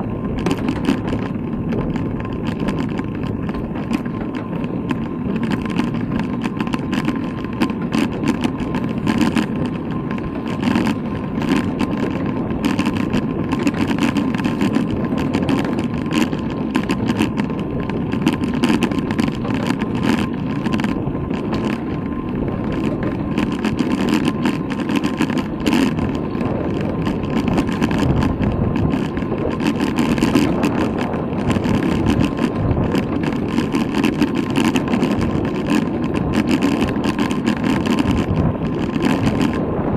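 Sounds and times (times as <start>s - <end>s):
bicycle tyre noise: 0.0s - 39.9s
wind rumble: 0.0s - 39.9s
small knocks and rattles: 0.3s - 39.6s.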